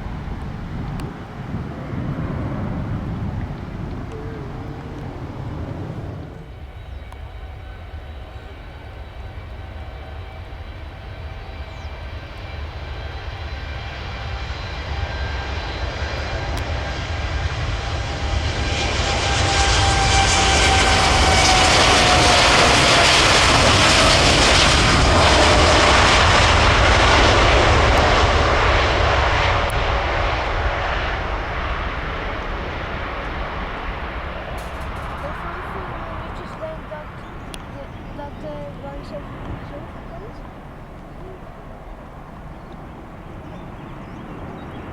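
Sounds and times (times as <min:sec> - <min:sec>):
jet airliner engines passing: 0:00.0 - 0:44.9.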